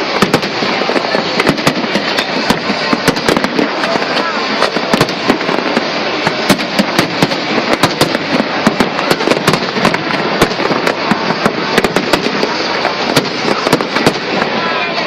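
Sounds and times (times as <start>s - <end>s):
fireworks sharp pops: 0.0s - 14.7s
fireworks crackling: 0.0s - 15.0s.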